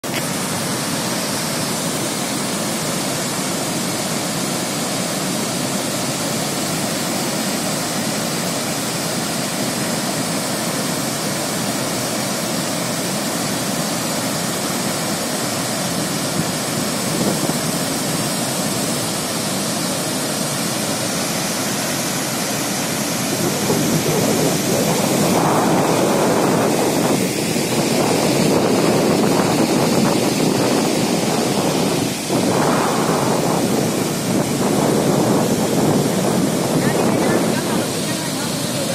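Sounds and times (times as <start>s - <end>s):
water rushing down spillway: 0.0s - 38.9s.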